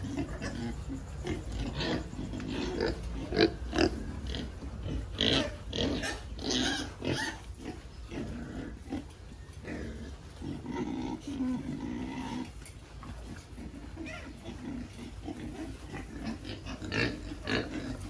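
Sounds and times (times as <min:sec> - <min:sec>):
pigs grunting and squealing: 0:00.0 - 0:18.0.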